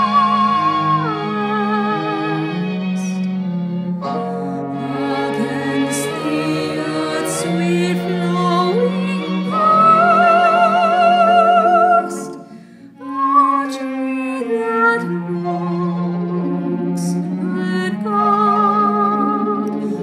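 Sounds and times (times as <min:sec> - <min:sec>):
woman singing: 0:00.0 - 0:03.1, 0:04.1 - 0:20.0
low steady accompaniment: 0:00.0 - 0:20.0.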